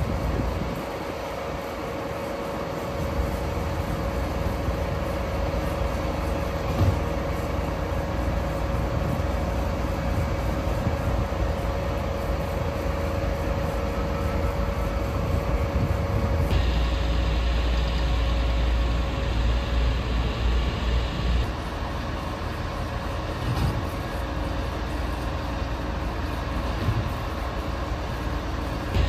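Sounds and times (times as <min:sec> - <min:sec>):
diesel machinery rumbling: 0:00.0 - 0:29.0.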